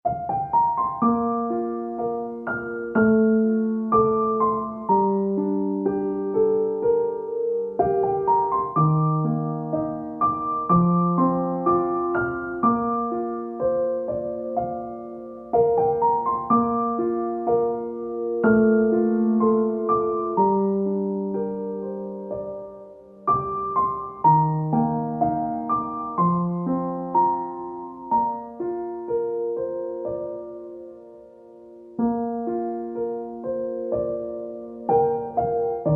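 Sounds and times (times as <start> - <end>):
soft piano music: 0.0 - 35.9.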